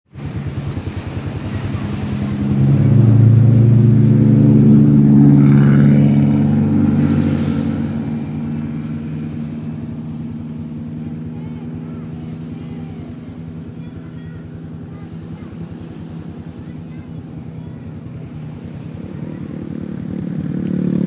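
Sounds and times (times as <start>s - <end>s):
vehicle engine accelerating: 0.2s - 21.0s.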